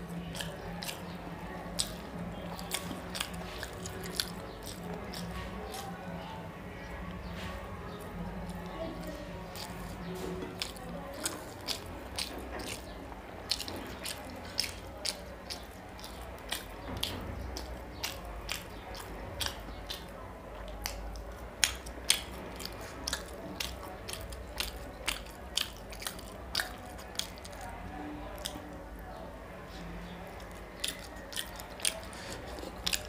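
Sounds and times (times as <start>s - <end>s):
chewing and lip-smacking: 0.0s - 6.3s, 6.9s - 28.9s, 29.7s - 33.0s.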